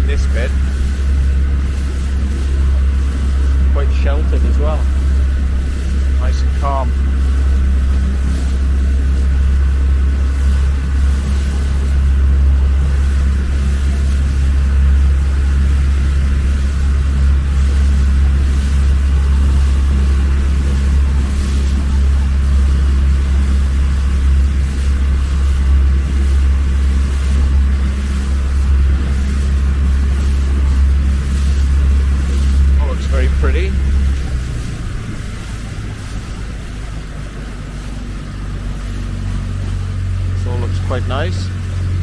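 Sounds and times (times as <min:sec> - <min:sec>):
small boat motor droning: 0:00.0 - 0:42.0.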